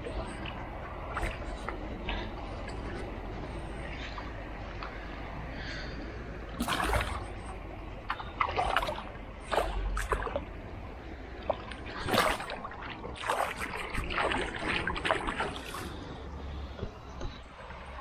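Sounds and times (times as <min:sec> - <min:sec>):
moving water: 0:00.0 - 0:18.0
water splashing and sloshing: 0:00.0 - 0:18.0.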